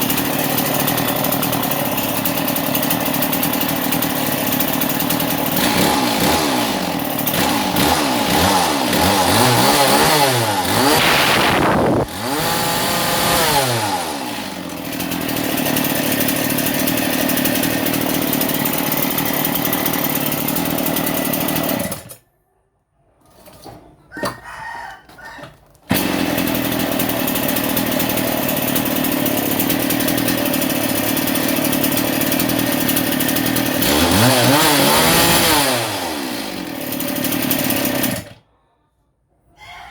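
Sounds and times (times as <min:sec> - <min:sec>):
cut-off saw engine revving: 0:00.0 - 0:22.2, 0:25.9 - 0:38.4.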